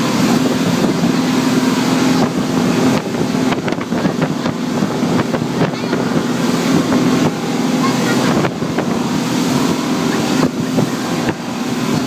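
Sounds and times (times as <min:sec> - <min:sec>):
hull slapping over waves: 0:00.0 - 0:12.0
speedboat engine running: 0:00.0 - 0:12.0
water rushing past hull: 0:00.0 - 0:12.0
wind buffeting microphone: 0:00.0 - 0:12.0.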